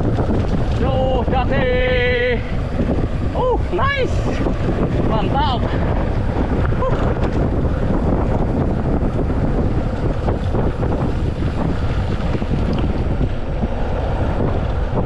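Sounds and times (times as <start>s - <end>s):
bike tyres rumbling: 0.0s - 15.0s
wind buffeting microphone: 0.0s - 15.0s.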